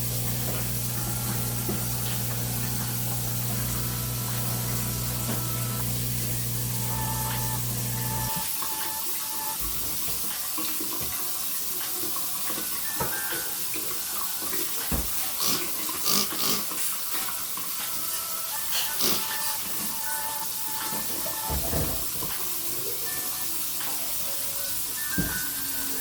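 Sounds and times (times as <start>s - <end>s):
tap water running into sink: 0.0s - 18.2s, 20.7s - 26.0s.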